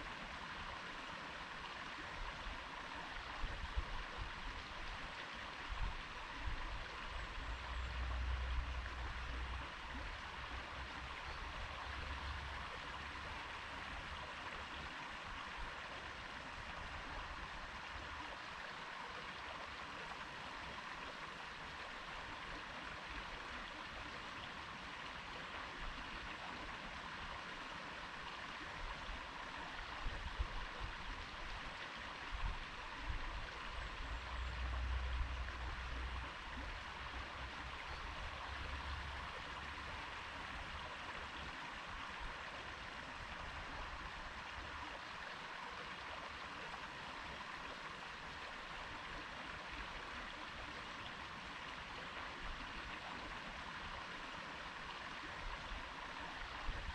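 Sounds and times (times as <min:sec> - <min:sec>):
stream flowing: 0:00.0 - 0:56.9.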